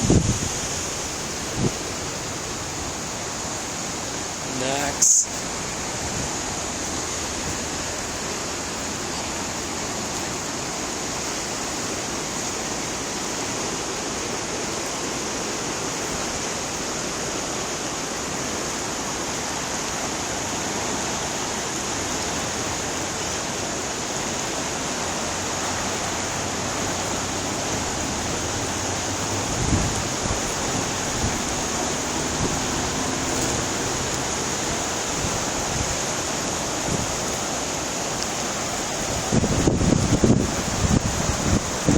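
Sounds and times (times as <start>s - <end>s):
floodwater rushing: 0.0s - 41.9s.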